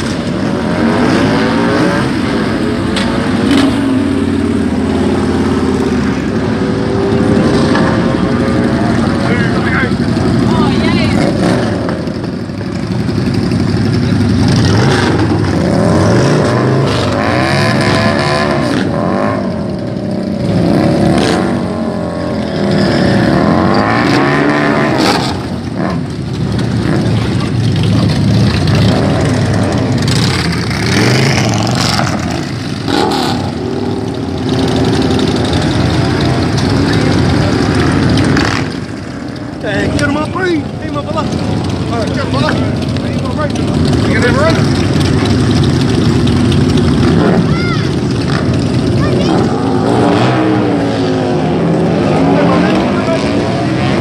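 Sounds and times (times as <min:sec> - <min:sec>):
motorcycles idling and revving: 0:00.0 - 0:54.0.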